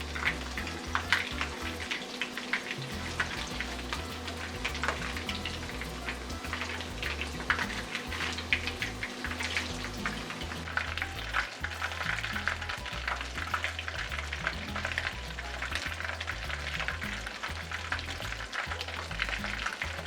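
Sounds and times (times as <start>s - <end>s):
food deep-frying in hot oil: 0.0s - 20.0s.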